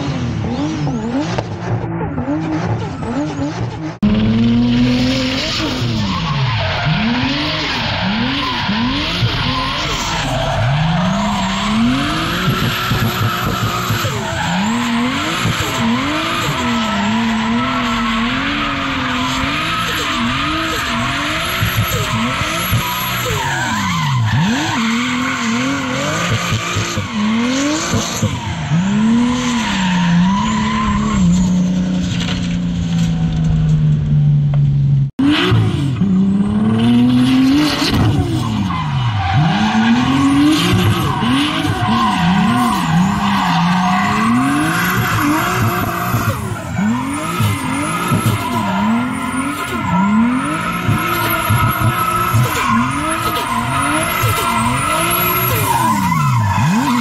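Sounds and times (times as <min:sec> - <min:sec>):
car engine revving: 0:00.0 - 0:57.0
tyres squealing and skidding: 0:00.4 - 0:33.4, 0:35.2 - 0:57.0.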